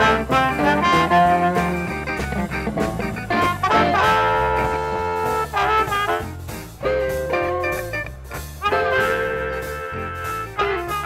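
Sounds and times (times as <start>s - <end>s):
amplified blues harmonica: 0.0s - 11.0s
drums: 0.0s - 11.0s
electric bass: 0.0s - 11.0s.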